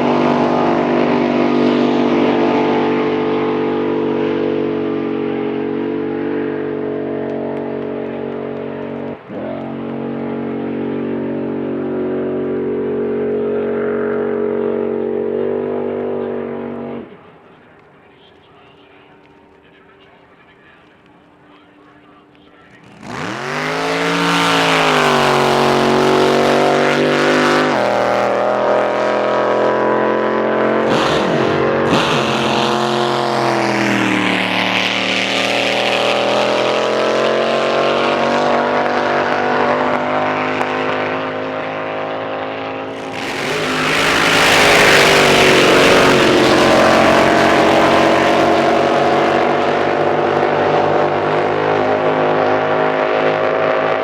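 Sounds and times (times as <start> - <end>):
boat engine revving: 0.0 - 17.0, 22.6 - 54.0.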